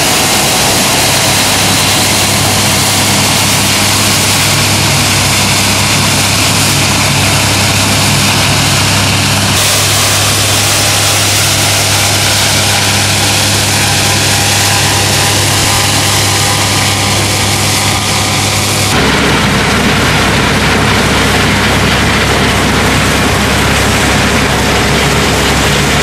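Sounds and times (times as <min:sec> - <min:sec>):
engine hum: 0:00.0 - 0:26.0
threshing machinery rushing: 0:00.0 - 0:26.0.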